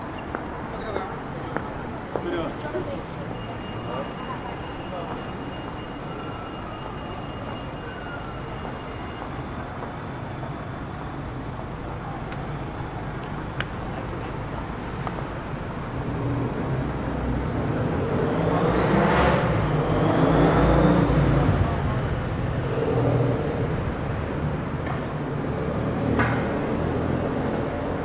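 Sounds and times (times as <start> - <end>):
road traffic hum: 0.0 - 28.0.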